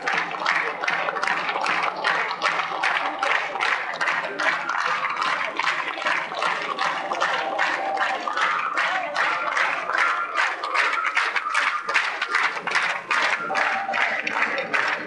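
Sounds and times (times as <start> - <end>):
audience clapping in unison: 0.0 - 15.0.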